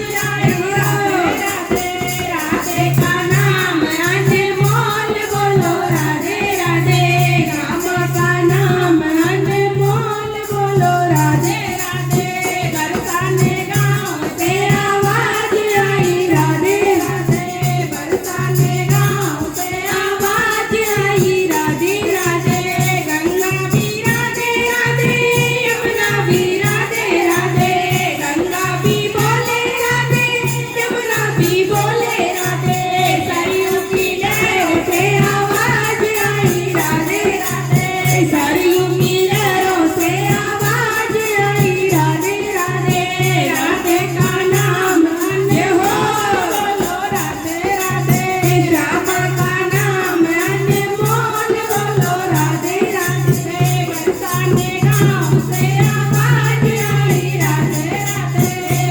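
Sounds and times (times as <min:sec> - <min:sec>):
person singing devotional song: 0:00.0 - 0:58.9
rhythmic percussion with jingles: 0:00.0 - 0:58.9.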